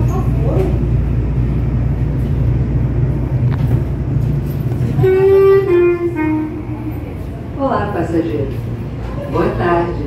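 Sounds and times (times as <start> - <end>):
low hum in train car: 0.0 - 10.0.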